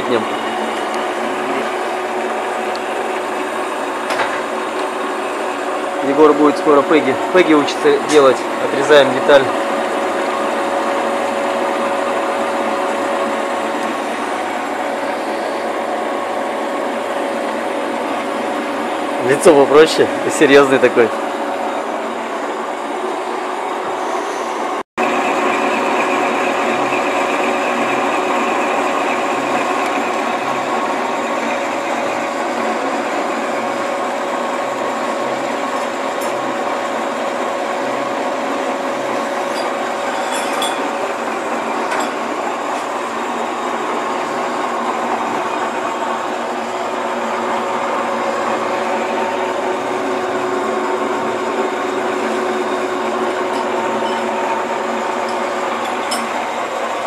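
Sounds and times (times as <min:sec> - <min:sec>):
lathe running: 0:00.0 - 0:57.0.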